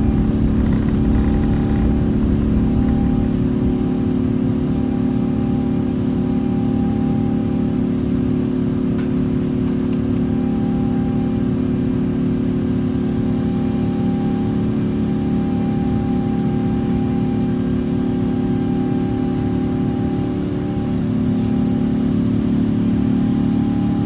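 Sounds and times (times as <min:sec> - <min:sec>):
constant humming tones: 0:00.0 - 0:24.0
jet engine rumble in cabin: 0:00.0 - 0:24.0.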